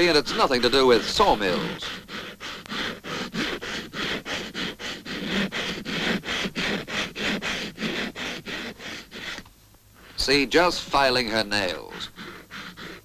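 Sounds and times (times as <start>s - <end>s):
nail file rasping on fingernail: 0.0s - 9.5s, 11.3s - 13.0s.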